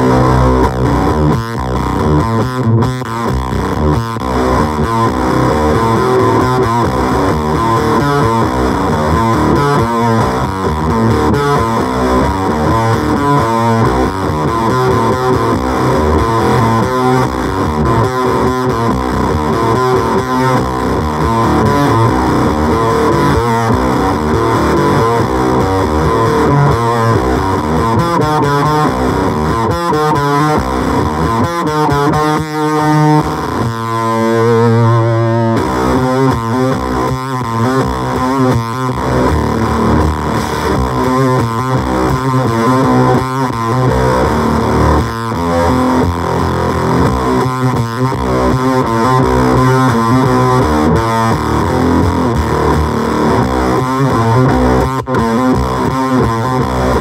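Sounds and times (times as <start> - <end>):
fuzz electric guitar: 0.0 - 57.0.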